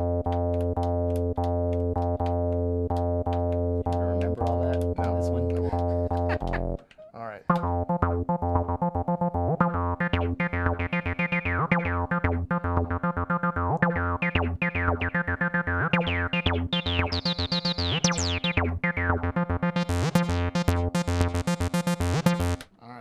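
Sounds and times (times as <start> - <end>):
acid bass synthesizer line: 0.0 - 6.8, 7.5 - 22.6.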